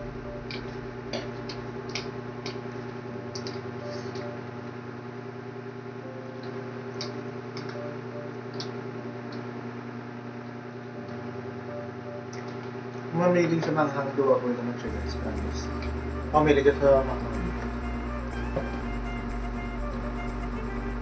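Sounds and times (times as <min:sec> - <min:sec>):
steady low hum: 0:00.0 - 0:13.2, 0:14.6 - 0:21.0.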